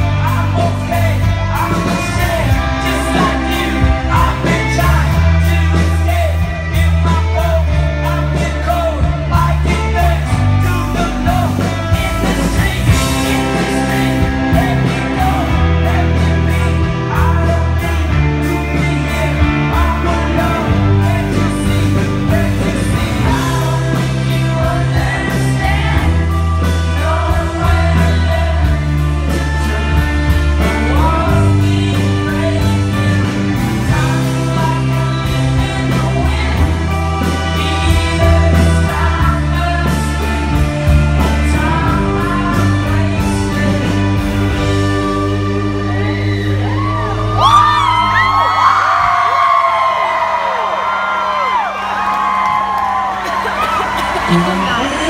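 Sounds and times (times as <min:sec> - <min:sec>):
man singing into microphone: 0:00.0 - 0:48.4, 0:54.3 - 0:55.0
live rock band playing: 0:00.0 - 0:55.0.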